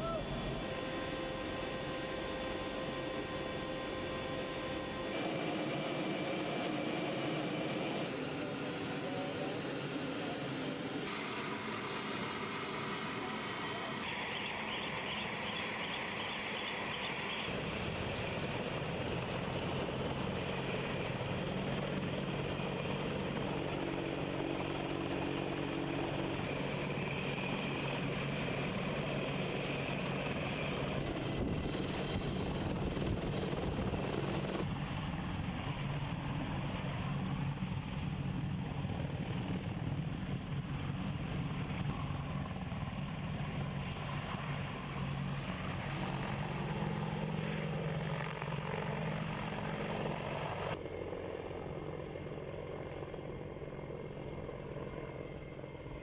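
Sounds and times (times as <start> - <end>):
helicopter main rotor: 0.0 - 56.0
helicopter turbine engines: 0.0 - 56.0.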